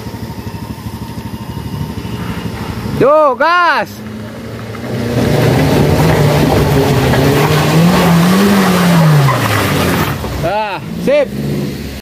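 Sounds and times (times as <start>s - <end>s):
van engine pulling hard: 0.0s - 12.0s.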